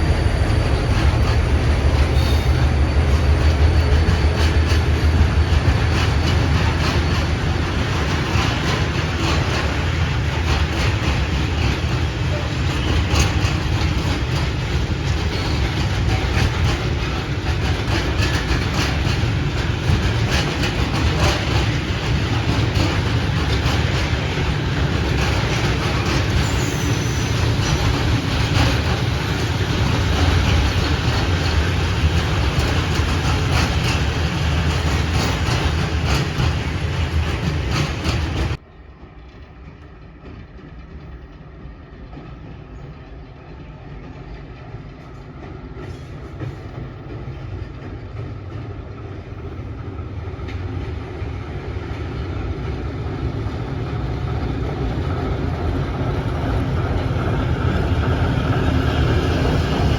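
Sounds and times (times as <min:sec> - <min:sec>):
approaching train rumble: 0:00.0 - 0:59.9
train wheels clattering: 0:00.0 - 0:59.9.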